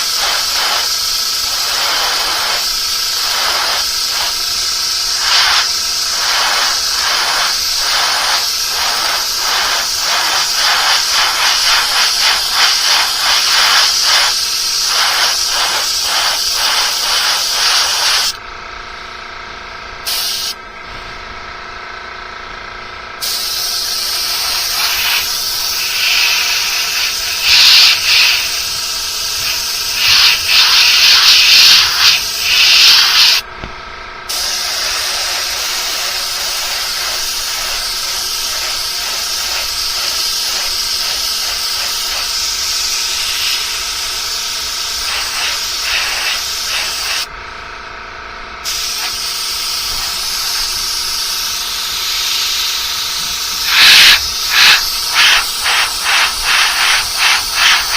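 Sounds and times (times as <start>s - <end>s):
airbrush hissing: 0.0s - 18.4s, 20.0s - 20.6s, 23.2s - 33.5s, 34.3s - 47.3s, 48.6s - 57.9s.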